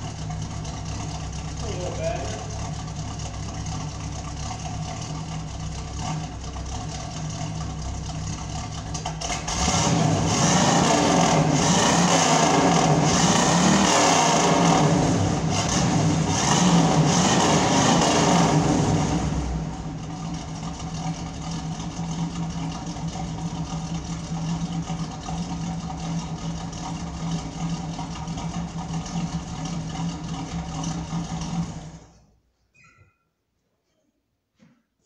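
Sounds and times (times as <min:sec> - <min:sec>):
car engine idling and revving: 0:00.0 - 0:32.2.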